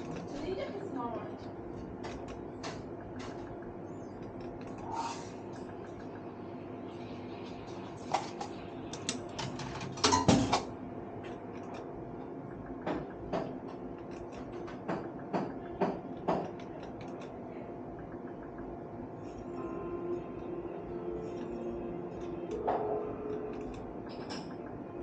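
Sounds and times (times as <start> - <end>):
electronic hum: 0.0 - 25.0.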